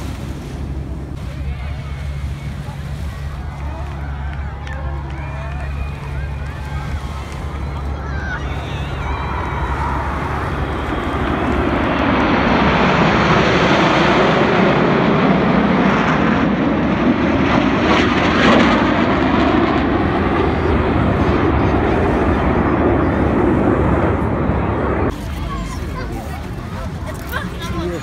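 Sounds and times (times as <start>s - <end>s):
jet aircraft passing overhead: 0.0s - 28.0s.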